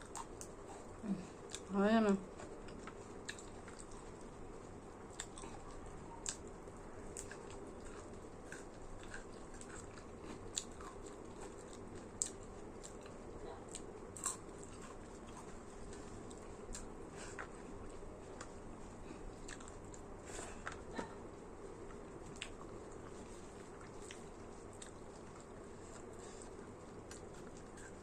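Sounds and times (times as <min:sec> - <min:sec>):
person chewing food: 0:00.0 - 0:01.7, 0:02.3 - 0:28.0
steady low hum: 0:00.0 - 0:28.0.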